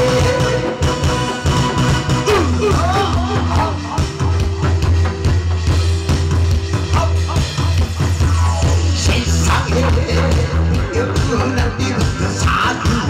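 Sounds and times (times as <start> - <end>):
drum kit beat: 0.0 - 13.0
steady bass line: 0.0 - 13.0.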